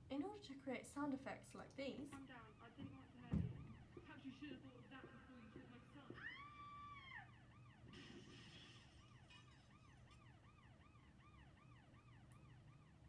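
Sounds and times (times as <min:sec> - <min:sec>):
faint siren yelping: 0:02.2 - 0:13.0.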